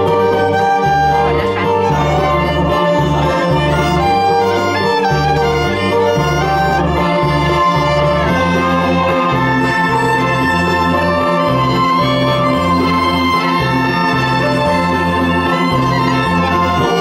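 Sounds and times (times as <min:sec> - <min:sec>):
instrumental backing track: 0:00.0 - 0:17.0.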